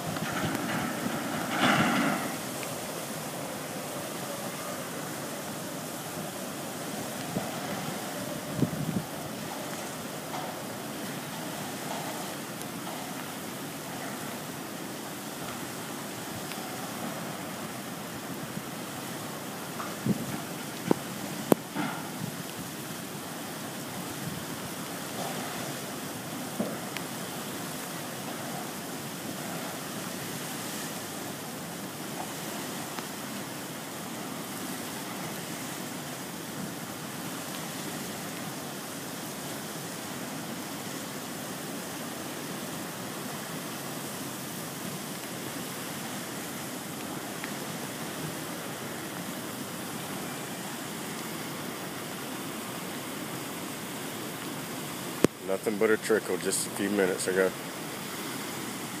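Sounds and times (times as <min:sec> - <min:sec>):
flood water rushing: 0:00.0 - 0:59.0.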